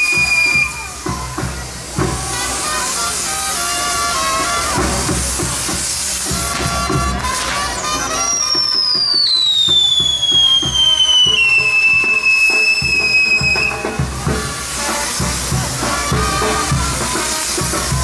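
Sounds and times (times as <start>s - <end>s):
band music with drum beat: 0.0s - 18.0s
firework whistle falling in pitch: 0.0s - 18.0s
hiss of spark fountains: 0.0s - 18.0s.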